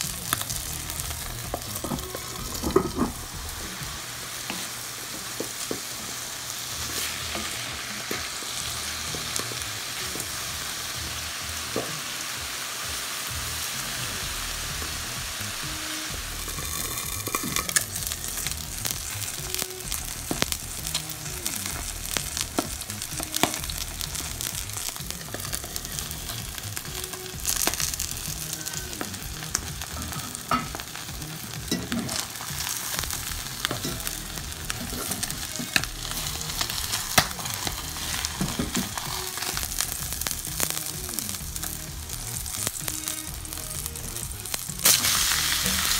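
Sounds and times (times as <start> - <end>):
food sizzling in oil: 0.0 - 45.9.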